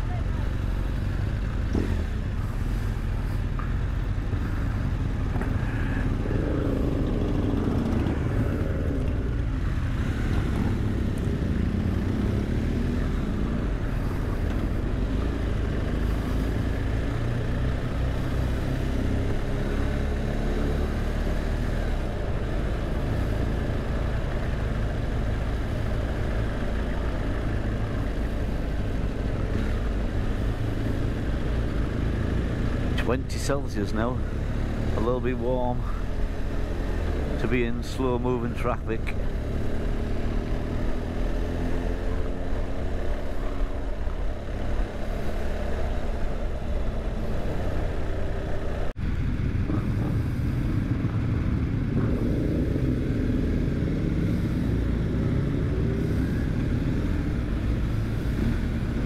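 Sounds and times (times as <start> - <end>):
motorcycle engine revving: 4.3 - 33.3, 33.9 - 59.0.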